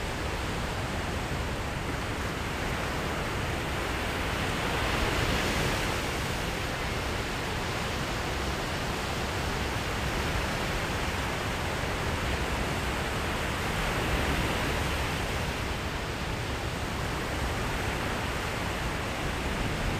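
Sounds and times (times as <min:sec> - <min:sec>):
small waves breaking on sand: 0:00.0 - 0:19.9.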